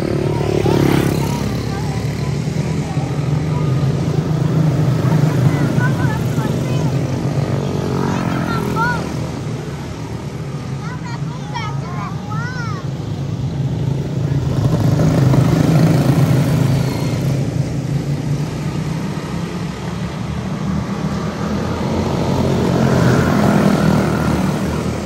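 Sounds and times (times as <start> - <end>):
small race car engines racing: 0.0 - 25.0.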